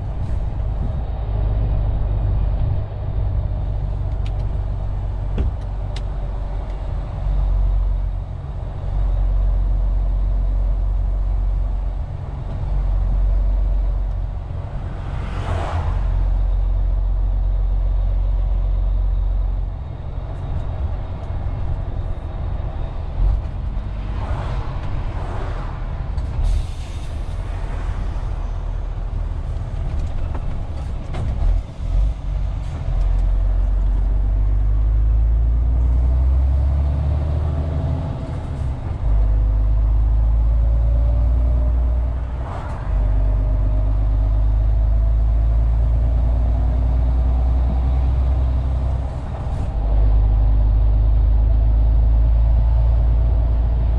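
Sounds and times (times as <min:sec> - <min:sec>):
truck diesel engine rumble: 0:00.0 - 0:53.9.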